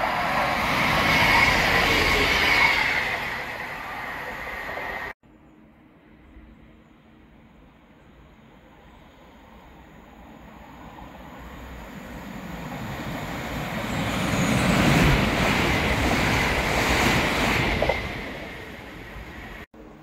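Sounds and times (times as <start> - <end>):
passenger train rumbling past: 0.0 - 5.2, 8.2 - 20.0.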